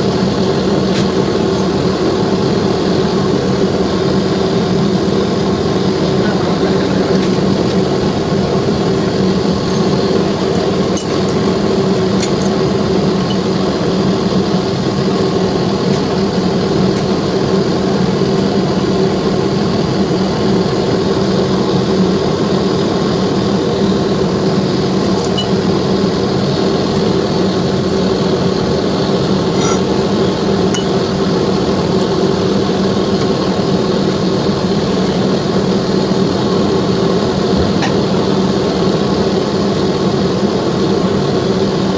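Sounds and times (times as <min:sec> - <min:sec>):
steady machine hum: 0:00.0 - 0:41.9.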